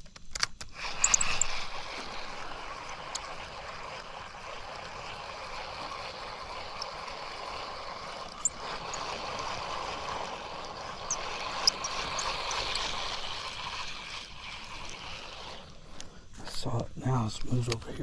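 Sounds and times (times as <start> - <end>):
stream water rushing: 0.7 - 16.4.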